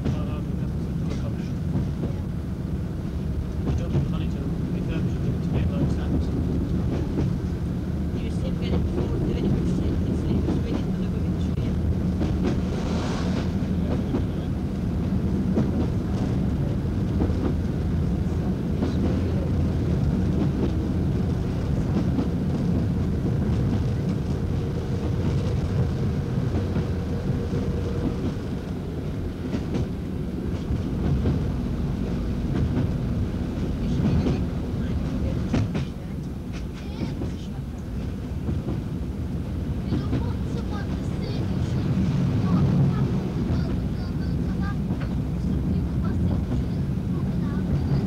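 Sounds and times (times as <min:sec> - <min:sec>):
train engine and wheels rumbling: 0:00.0 - 0:48.0.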